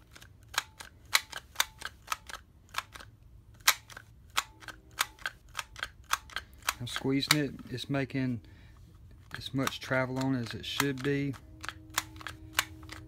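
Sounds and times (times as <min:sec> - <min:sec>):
plastic clamp ratchet clicking: 0:00.0 - 0:07.6, 0:09.3 - 0:13.0.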